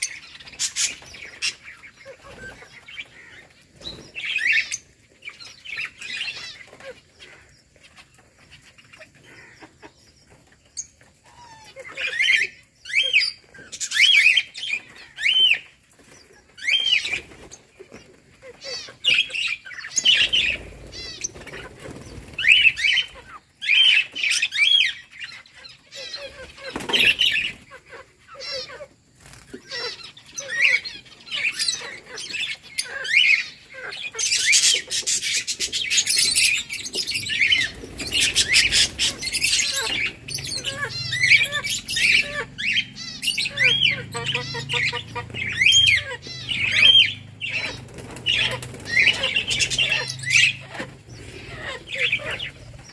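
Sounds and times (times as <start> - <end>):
lovebirds chirping and squawking: 0.0 - 52.9.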